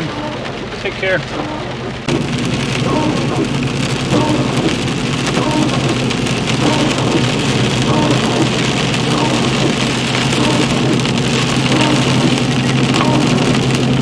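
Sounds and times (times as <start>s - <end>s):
low engine hum: 0.0s - 14.0s
rain on a vehicle: 0.0s - 14.0s.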